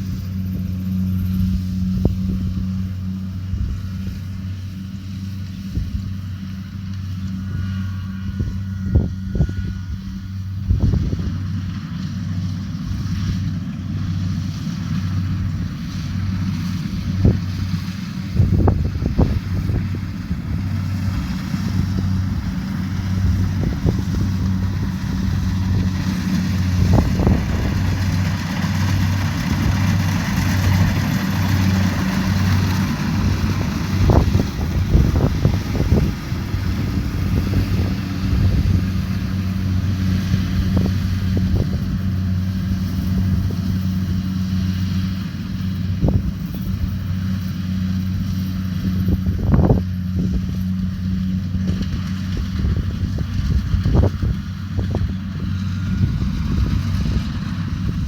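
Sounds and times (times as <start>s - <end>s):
combine harvester diesel engine droning: 0.0s - 58.0s.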